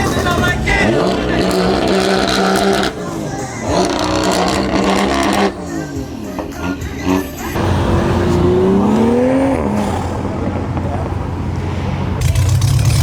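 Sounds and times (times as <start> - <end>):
car engine accelerating: 0.0 - 13.0
low engine rumble: 0.0 - 13.0.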